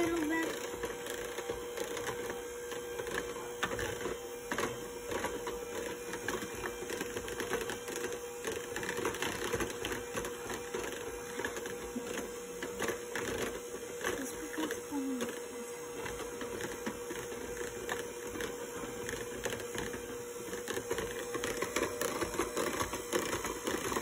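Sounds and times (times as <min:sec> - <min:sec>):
electric hand mixer whisking: 0:00.0 - 0:24.0.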